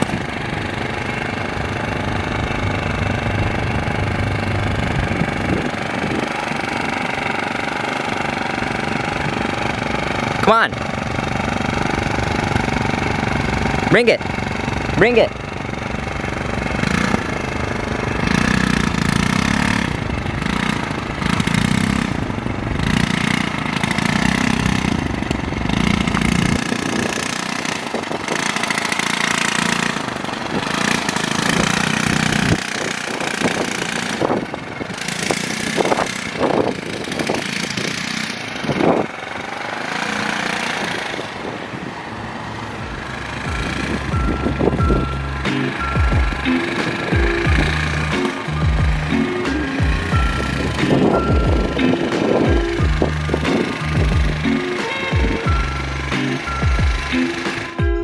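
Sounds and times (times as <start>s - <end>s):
moped engine revving: 0.0s - 58.0s.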